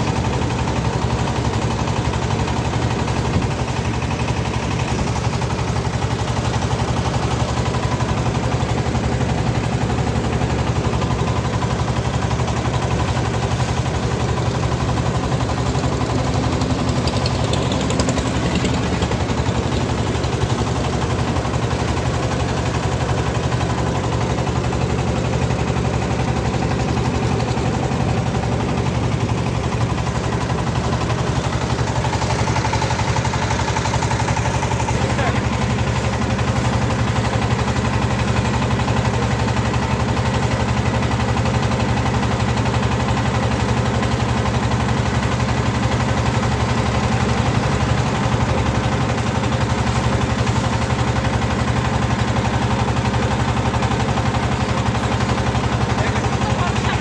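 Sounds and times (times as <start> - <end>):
boat engine chugging: 0.0 - 57.0.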